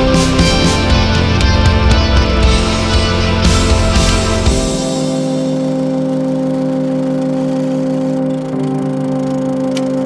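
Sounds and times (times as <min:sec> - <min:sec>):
sustained music chord: 0:00.0 - 0:10.0.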